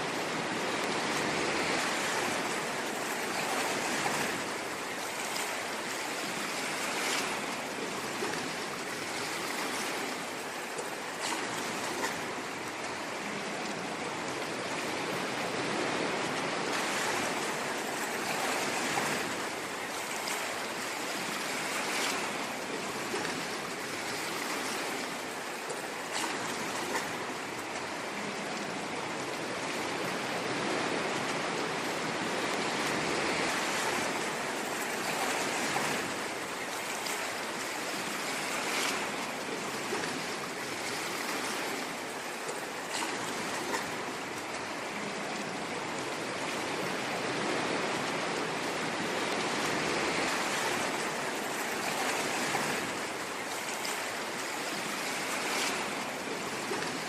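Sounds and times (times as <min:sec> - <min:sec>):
ocean waves washing in: 0:00.0 - 0:57.0
water splashes: 0:00.0 - 0:57.0.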